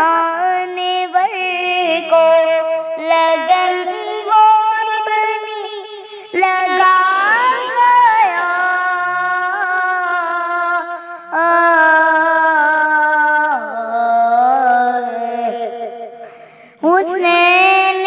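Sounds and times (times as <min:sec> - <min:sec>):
girl singing: 0:00.0 - 0:18.0.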